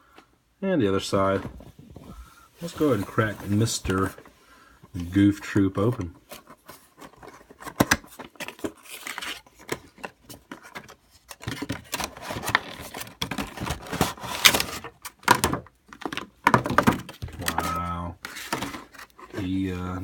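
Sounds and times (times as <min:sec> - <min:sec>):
cardboard and plastic rustling: 0:01.0 - 0:20.0.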